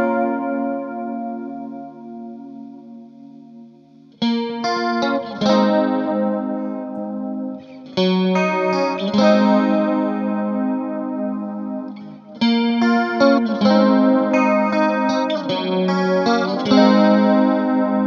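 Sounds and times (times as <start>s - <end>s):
electric guitar chords with chorus: 0.0s - 18.0s.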